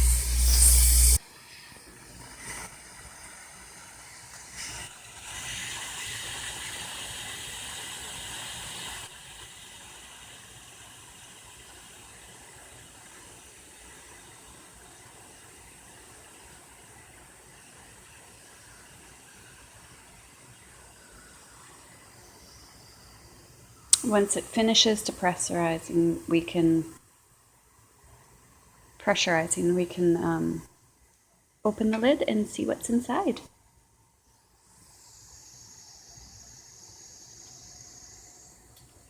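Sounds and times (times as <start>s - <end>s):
steam hissing from pressure cooker: 0.0s - 27.0s, 34.6s - 39.0s.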